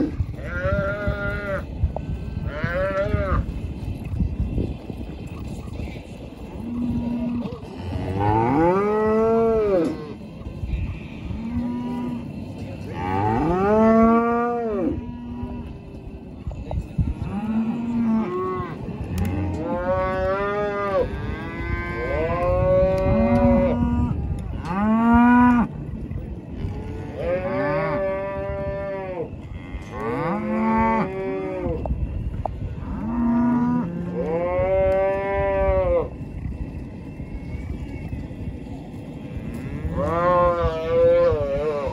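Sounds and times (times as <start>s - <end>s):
low flat moos: 0.0s - 41.9s.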